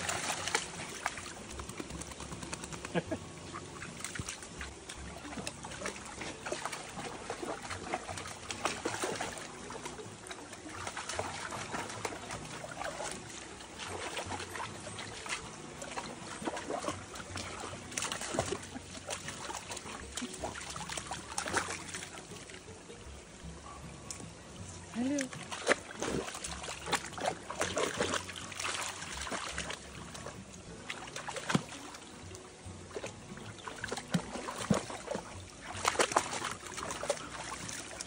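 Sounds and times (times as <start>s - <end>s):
dog splashing through water: 0.0s - 3.0s, 3.7s - 22.2s, 25.0s - 32.0s, 32.9s - 38.0s
stream trickling over rocks: 0.0s - 38.0s.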